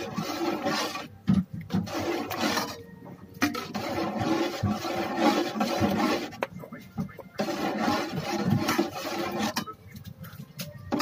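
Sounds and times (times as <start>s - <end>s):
spoon scraping a pot: 0.0s - 11.0s.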